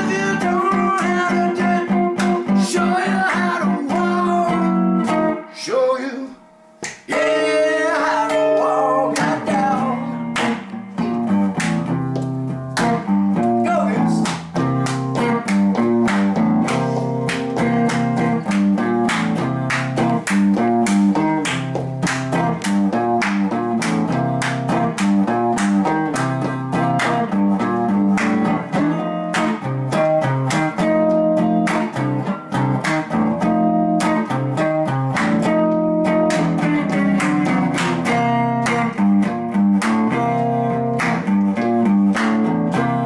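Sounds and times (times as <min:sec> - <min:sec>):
electric guitar strumming chords: 0:00.0 - 0:43.0.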